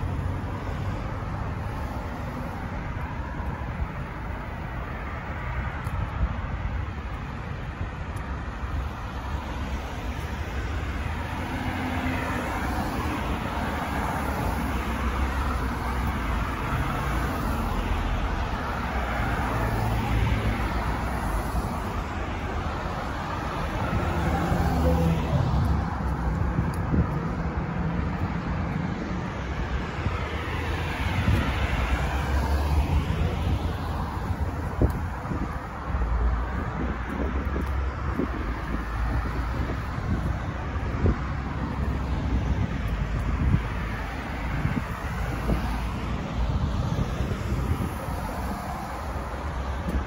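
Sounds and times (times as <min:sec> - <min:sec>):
cars passing: 0:00.0 - 0:50.0
low traffic rumble: 0:00.0 - 0:50.0.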